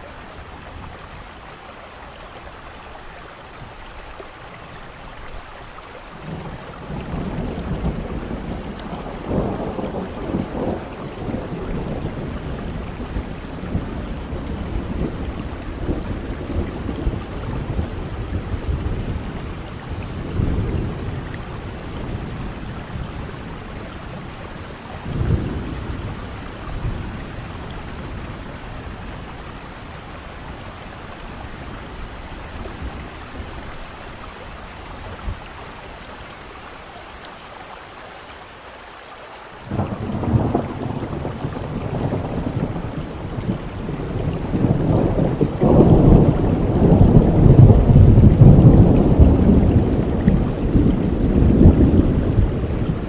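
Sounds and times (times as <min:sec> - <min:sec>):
steady rain: 0:00.0 - 0:53.0
rolling thunder: 0:06.2 - 0:35.8, 0:39.7 - 0:53.0.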